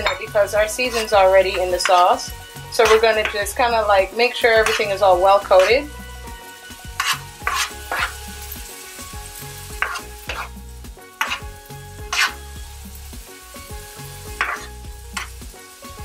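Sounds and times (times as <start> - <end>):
spoon scraping a frying pan: 0.0 - 6.1, 6.7 - 12.6, 13.4 - 16.0
light sizzle from a pan: 0.0 - 16.0.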